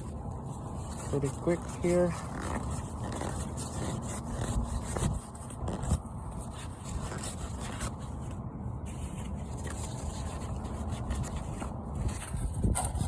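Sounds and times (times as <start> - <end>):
faint rubbing and scraping: 0.0 - 13.0
low background rumble: 0.0 - 13.0.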